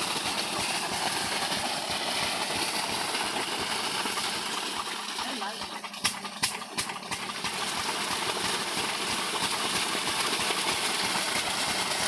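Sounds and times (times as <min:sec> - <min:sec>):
water gushing from pump outlet: 0:00.0 - 0:12.0.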